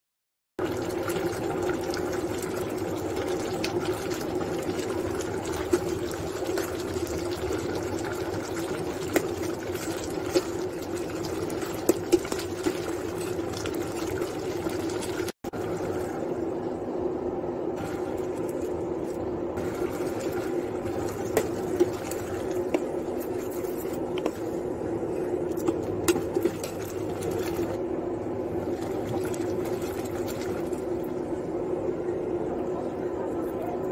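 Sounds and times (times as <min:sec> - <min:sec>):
lentils bubbling in pot: 0:00.6 - 0:16.8, 0:17.7 - 0:31.8
cooktop hum: 0:00.6 - 0:33.9.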